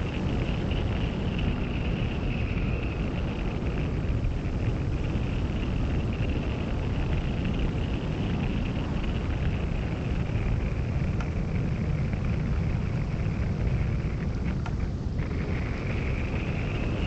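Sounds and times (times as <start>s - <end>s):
wind rushing over camera: 0.0s - 17.0s.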